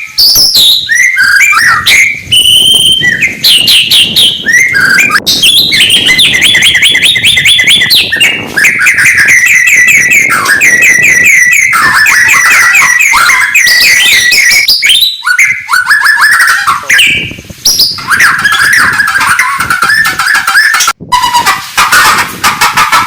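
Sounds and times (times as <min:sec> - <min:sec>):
bird singing loudly: 0:00.0 - 0:22.2.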